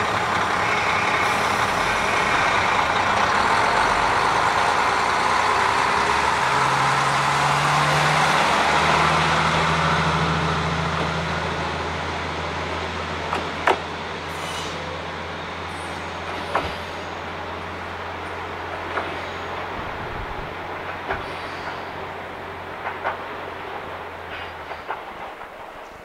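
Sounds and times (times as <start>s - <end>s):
diesel engine drone: 0.0s - 23.7s
train wheels on rails: 0.0s - 26.0s.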